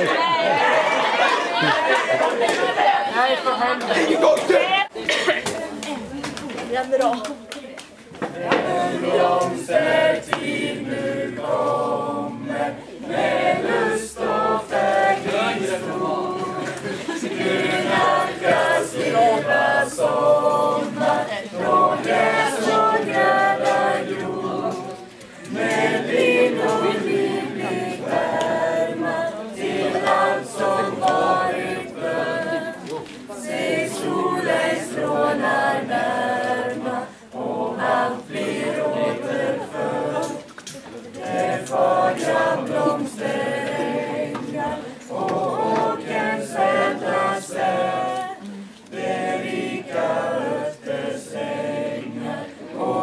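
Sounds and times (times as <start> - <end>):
group singing a cappella: 0.0 - 5.2, 8.1 - 53.0.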